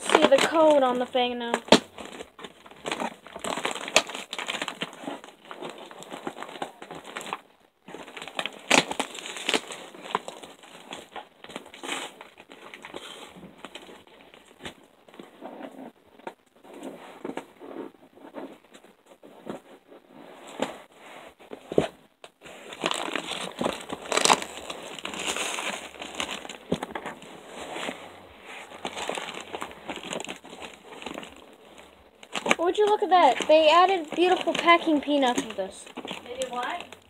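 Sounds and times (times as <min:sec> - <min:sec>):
package wrapping crinkling: 0:00.0 - 0:19.7, 0:21.5 - 0:37.0.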